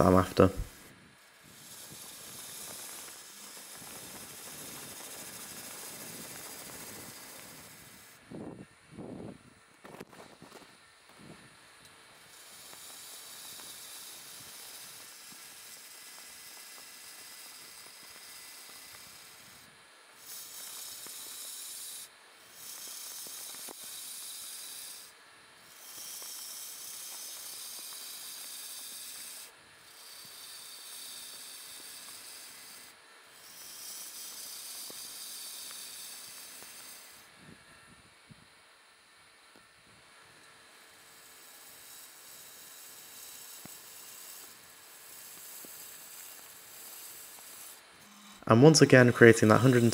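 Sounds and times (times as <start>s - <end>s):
gouge cutting wood shavings: 0.0s - 8.3s, 11.8s - 37.4s, 40.4s - 49.9s
lathe humming: 0.0s - 49.9s.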